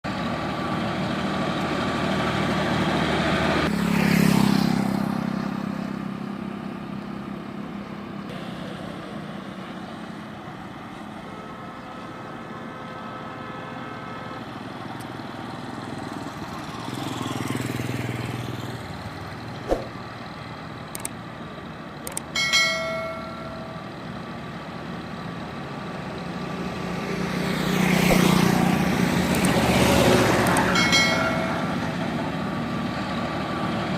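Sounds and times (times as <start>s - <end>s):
road noise: 0.0s - 33.9s
vehicles passing: 0.0s - 33.9s
tractor engine running: 5.2s - 33.9s.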